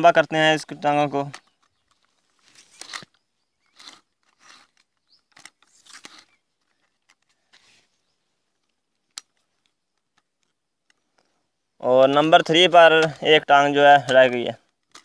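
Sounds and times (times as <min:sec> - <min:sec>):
tripod legs scraping: 0:00.6 - 0:15.0.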